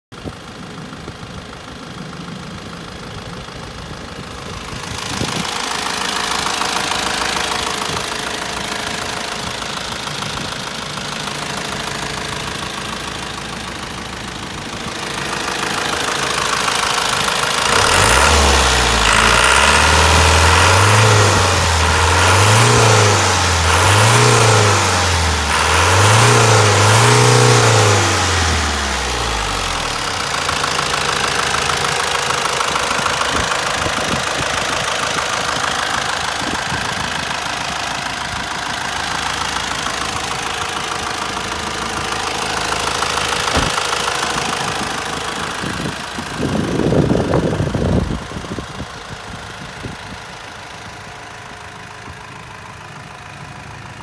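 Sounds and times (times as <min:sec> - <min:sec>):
truck diesel engine idling and revving: 0:00.1 - 0:54.0.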